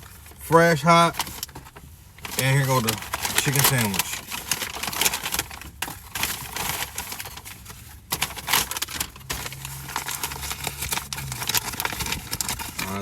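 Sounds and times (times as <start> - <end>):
paper wrapper rustling: 0.0 - 13.0.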